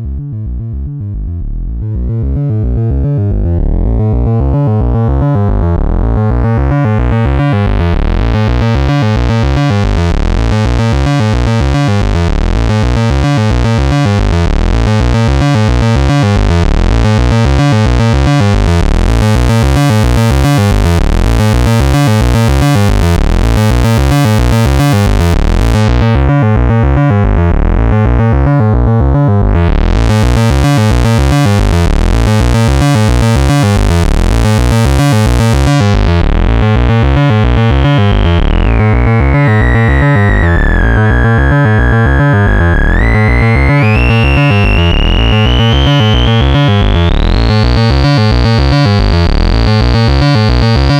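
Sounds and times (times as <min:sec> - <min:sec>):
pulsing bass synthesizer pattern: 0:00.0 - 0:50.9.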